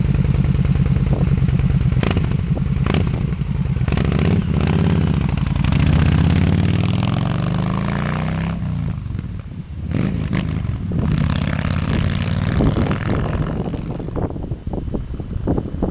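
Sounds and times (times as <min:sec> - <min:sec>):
motorcycle passing by: 0:00.0 - 0:09.3, 0:09.9 - 0:14.4.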